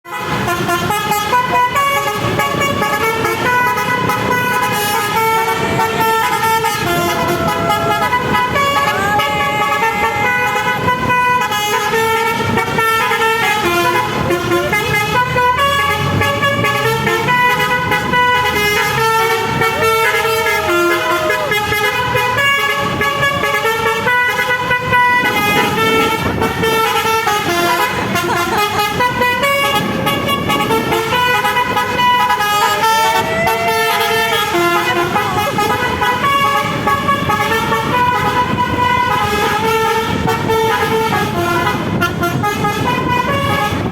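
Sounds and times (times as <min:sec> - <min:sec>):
multi-tone air horns playing tune: 0:00.1 - 0:43.9.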